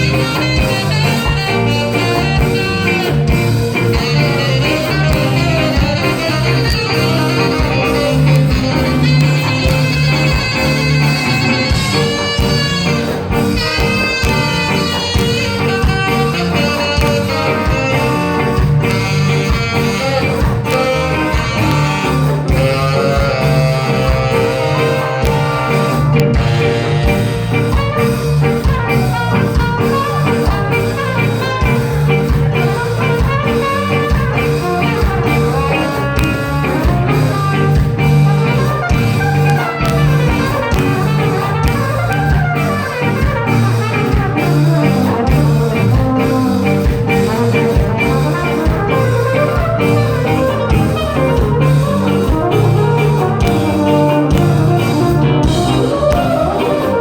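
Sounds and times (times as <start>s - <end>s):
ska band playing instrumental: 0.0s - 57.0s.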